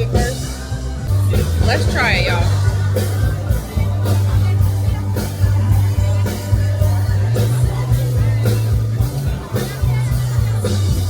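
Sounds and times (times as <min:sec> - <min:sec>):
music with heavy bass and drums: 0:00.0 - 0:11.0.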